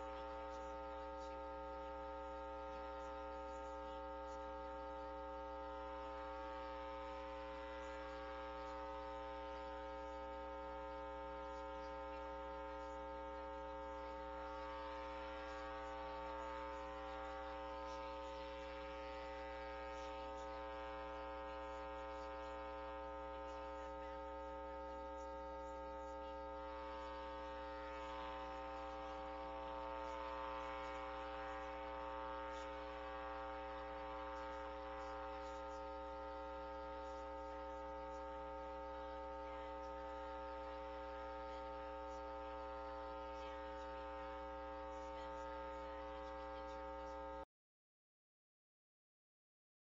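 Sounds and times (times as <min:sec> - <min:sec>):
electrical hum and buzz: 0:00.0 - 0:47.5.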